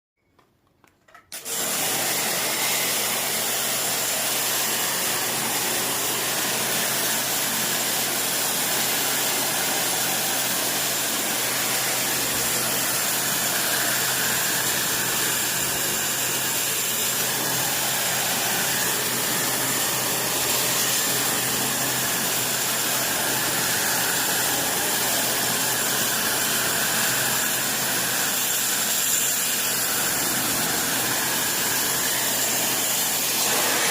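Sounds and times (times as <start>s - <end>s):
pressure washer running: 1.3s - 33.9s.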